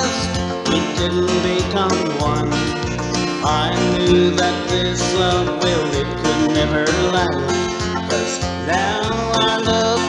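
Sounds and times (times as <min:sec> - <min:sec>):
guitar and bass: 0:00.0 - 0:10.0
slide guitar lead: 0:00.0 - 0:10.0.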